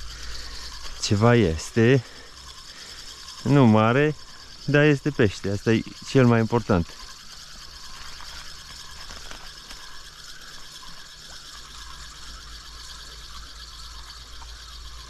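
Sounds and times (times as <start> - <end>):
fishing reel ticking whirr: 0.0 - 15.0.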